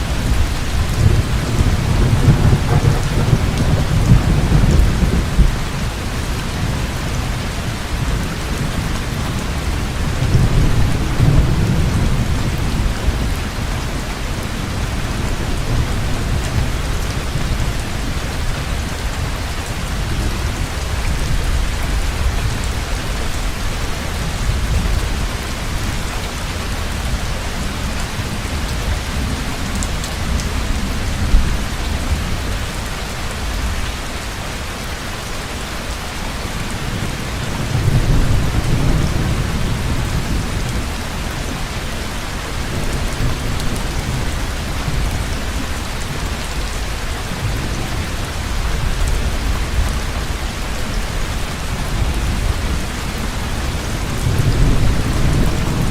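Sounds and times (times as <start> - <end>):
thunder rumbling: 0.0 - 25.8, 36.6 - 55.9
heavy rain falling: 0.0 - 55.9.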